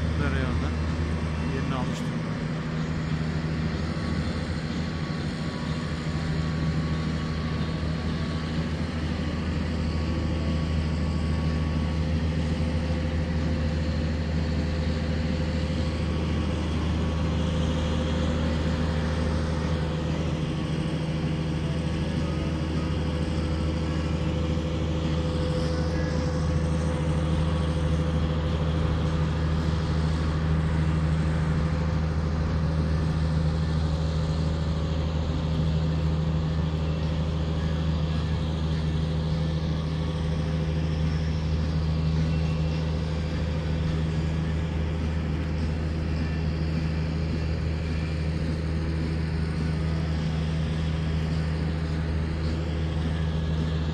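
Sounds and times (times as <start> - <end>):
loud low engine drone: 0.0 - 53.9.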